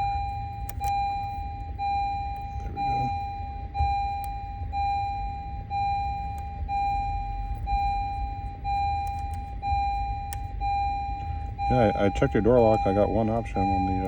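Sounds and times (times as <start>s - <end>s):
car warning beep: 0.0s - 14.0s.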